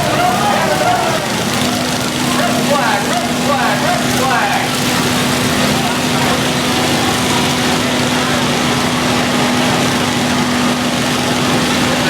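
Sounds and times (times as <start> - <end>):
dense noisy background: 0.0 - 12.0
lawn mower engines running: 0.0 - 12.0.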